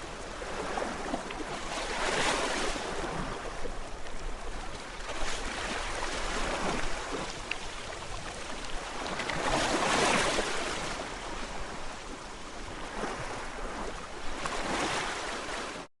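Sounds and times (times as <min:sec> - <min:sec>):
gentle sea waves washing in: 0:00.0 - 0:15.9.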